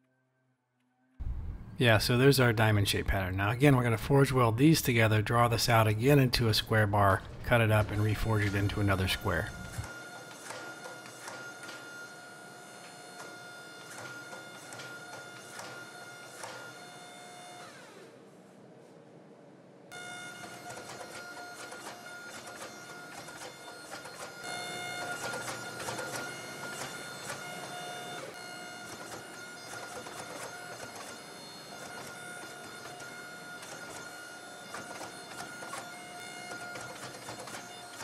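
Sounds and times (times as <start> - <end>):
hydraulic press whining: 5.7 - 18.2, 19.9 - 38.0.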